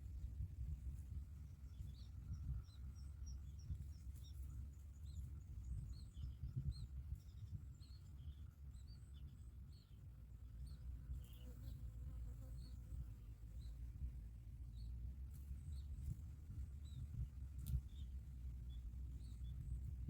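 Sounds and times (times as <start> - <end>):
steady low rumble: 0.0 - 11.2, 12.9 - 20.0
small birds chirping: 0.9 - 20.0.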